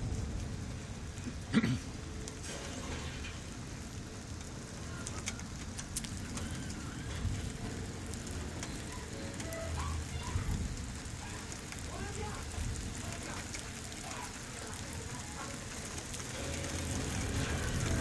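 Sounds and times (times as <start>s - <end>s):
low rumbles: 0.0s - 18.0s
steady rain falling: 0.0s - 18.0s.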